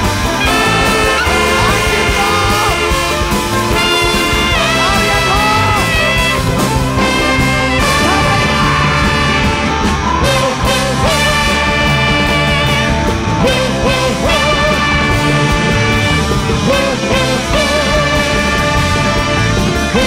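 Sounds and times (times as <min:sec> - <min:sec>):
big band playing free jazz: 0:00.0 - 0:20.0.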